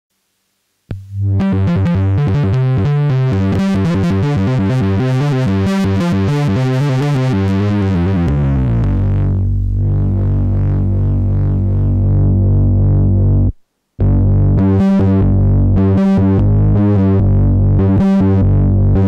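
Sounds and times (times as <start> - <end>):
distorted synthesizer notes: 0.9 - 19.0.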